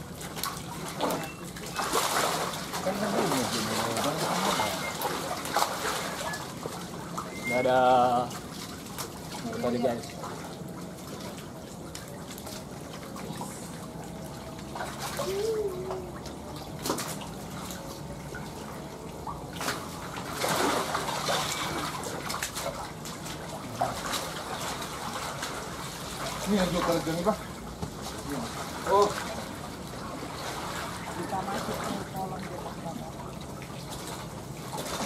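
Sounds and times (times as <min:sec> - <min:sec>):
water splashing and sloshing: 0:00.0 - 0:35.0
water trickling: 0:00.0 - 0:35.0.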